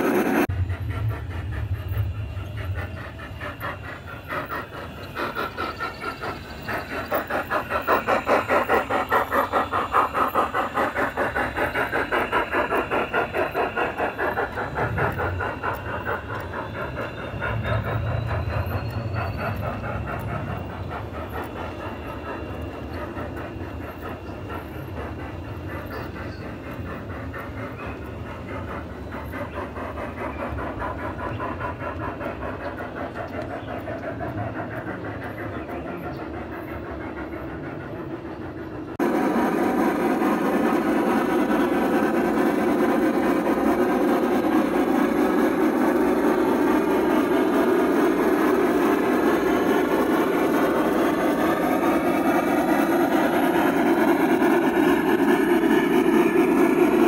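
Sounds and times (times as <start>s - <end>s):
model train wheels clattering: 0.0s - 57.0s.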